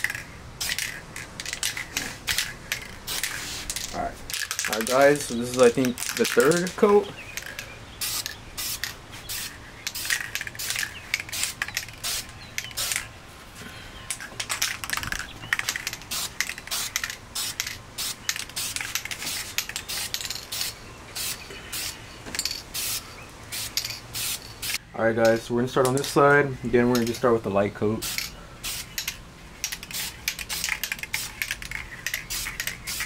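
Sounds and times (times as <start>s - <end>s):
spray paint can hissing: 0.0s - 6.8s, 7.4s - 13.1s, 14.5s - 24.8s, 28.0s - 33.0s.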